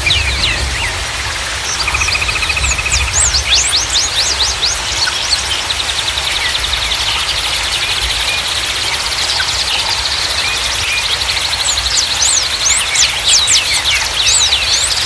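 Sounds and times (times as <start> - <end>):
flowing water rushing: 0.0 - 15.0
songbirds chirping and trilling: 0.0 - 15.0.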